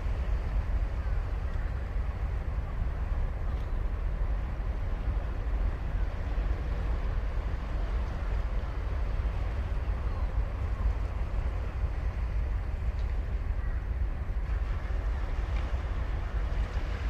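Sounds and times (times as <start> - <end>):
breaking waves rumbling: 0.0 - 17.0.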